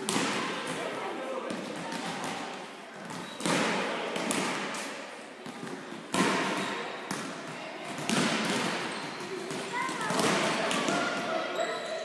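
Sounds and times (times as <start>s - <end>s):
volleyballs struck and bouncing: 0.0s - 11.4s.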